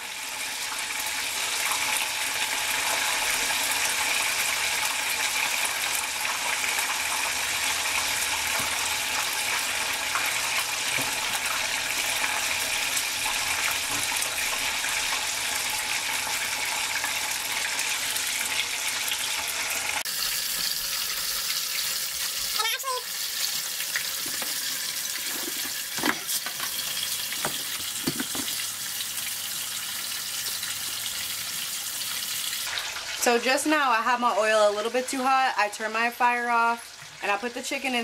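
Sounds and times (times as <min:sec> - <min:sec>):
chicken deep-frying in oil: 0:00.0 - 0:38.0.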